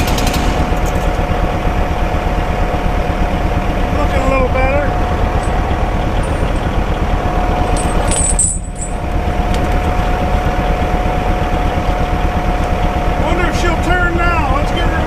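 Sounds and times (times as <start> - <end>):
engine running under load: 0.0 - 15.0
steady whine: 0.0 - 15.0.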